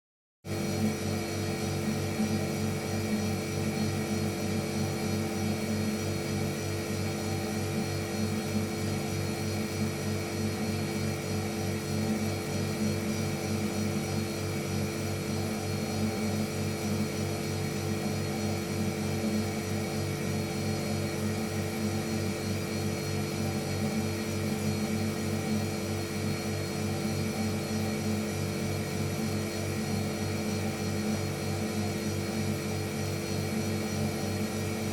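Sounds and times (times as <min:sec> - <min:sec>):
refrigerator compressor humming: 0:00.5 - 0:34.9.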